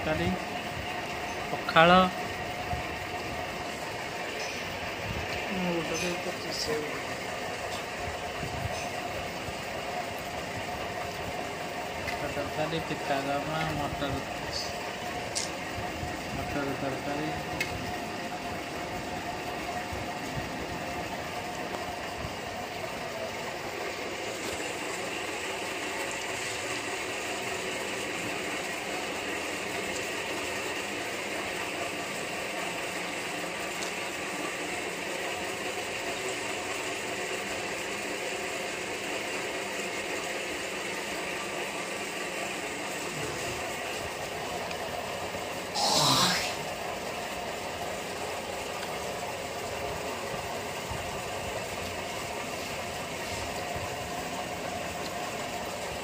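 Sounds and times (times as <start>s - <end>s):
mechanical hum and hiss: 0.0s - 56.0s.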